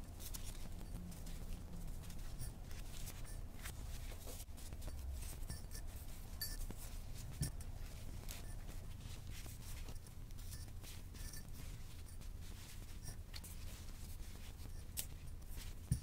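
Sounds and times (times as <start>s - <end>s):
fabric rustling: 0.0s - 16.0s
low steady hum: 0.0s - 16.0s.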